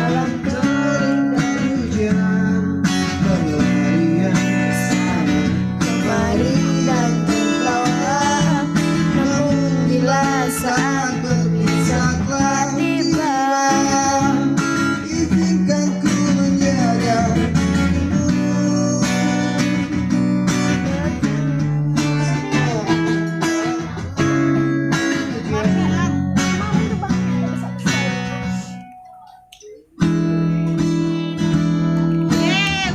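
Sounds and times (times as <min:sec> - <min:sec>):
guitar music: 0:00.0 - 0:32.9.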